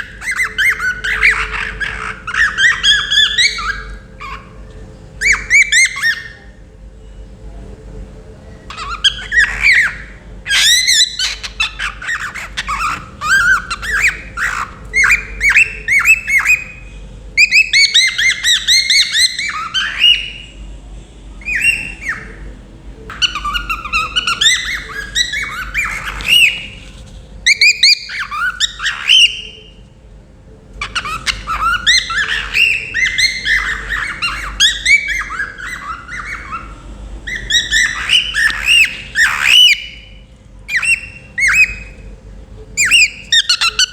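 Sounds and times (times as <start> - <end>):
cockatiel whistling and chirping: 0.0 - 4.5, 5.2 - 6.5, 8.7 - 16.8, 17.4 - 20.5, 21.4 - 22.4, 23.1 - 29.8, 30.8 - 42.0, 42.8 - 43.9.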